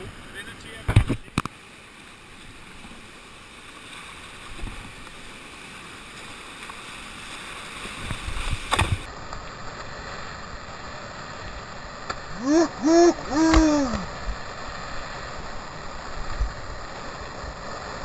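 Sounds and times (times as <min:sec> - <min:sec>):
whitewater rushing: 0:00.0 - 0:18.0.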